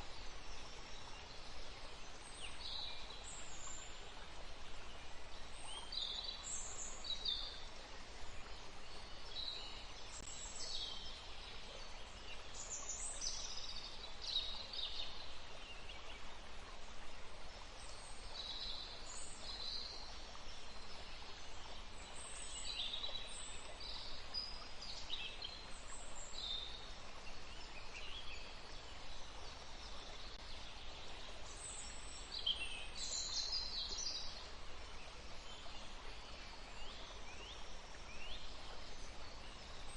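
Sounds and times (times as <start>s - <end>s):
flowing river water: 0.0s - 39.9s.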